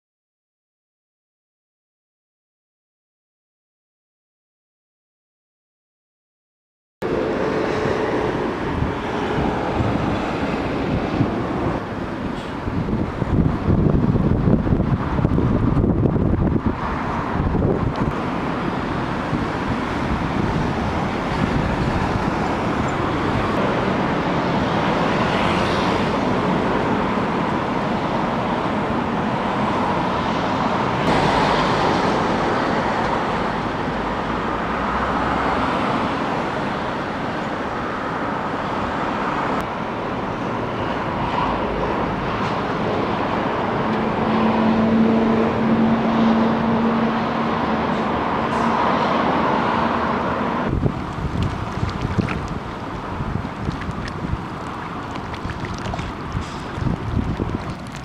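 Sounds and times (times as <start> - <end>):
cars passing: 7.0 - 58.0.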